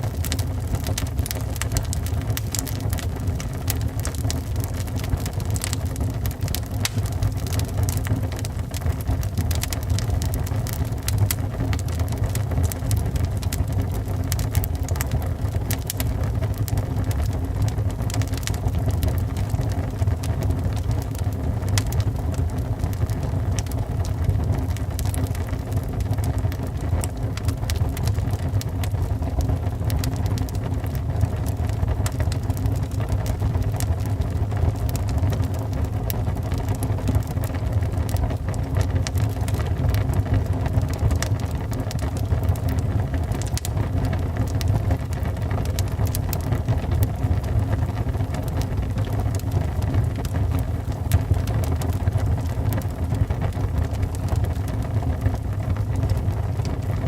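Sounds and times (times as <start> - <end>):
burning wood crackling: 0.0 - 57.0
fire flames rumbling: 0.0 - 57.0.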